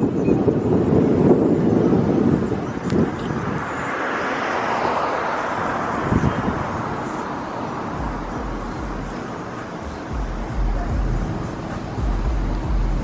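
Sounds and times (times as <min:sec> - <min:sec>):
road noise: 0:00.0 - 0:13.0
wind buffeting microphone: 0:00.0 - 0:13.0
wind rushing past car: 0:00.0 - 0:13.0.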